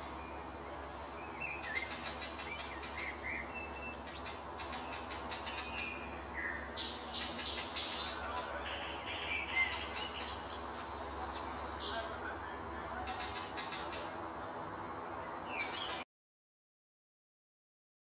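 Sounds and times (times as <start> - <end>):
birds chirping: 0.0 - 16.0
steady low hum: 0.0 - 16.0.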